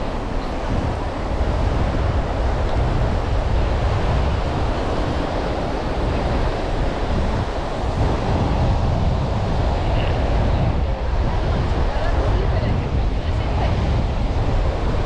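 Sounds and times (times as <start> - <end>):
surf washing on a beach: 0.0 - 15.0
wind rumbling on microphone: 0.0 - 15.0.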